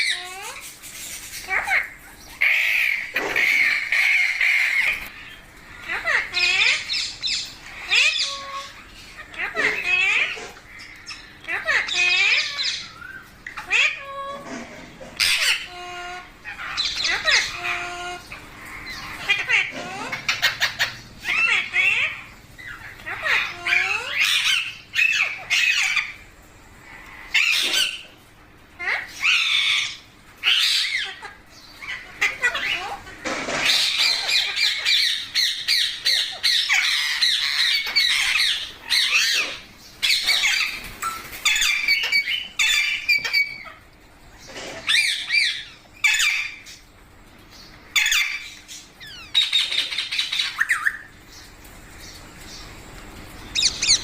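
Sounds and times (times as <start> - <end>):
parrot squawking: 0.0 - 26.3, 26.9 - 46.8, 47.9 - 51.2, 53.4 - 54.0
parrot chattering calls: 0.0 - 46.8, 47.9 - 51.2, 53.4 - 54.0.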